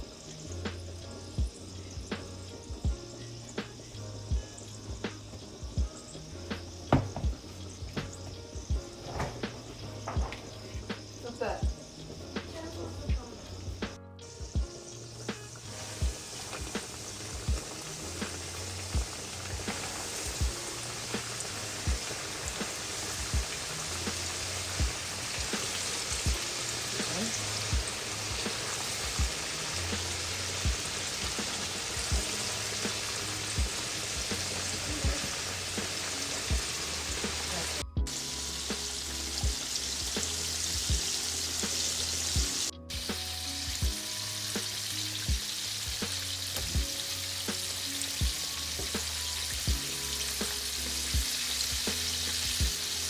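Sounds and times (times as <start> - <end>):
chicken sizzling in hot oil: 0.0 - 53.0.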